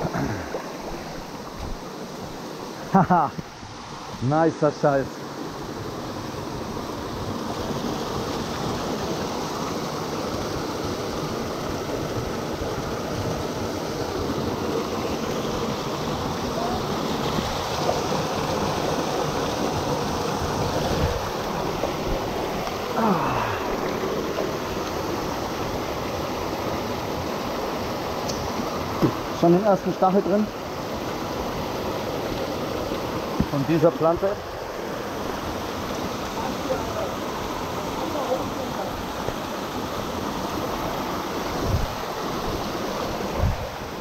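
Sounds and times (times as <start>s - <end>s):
waterfall rushing over rocks: 0.0s - 44.0s.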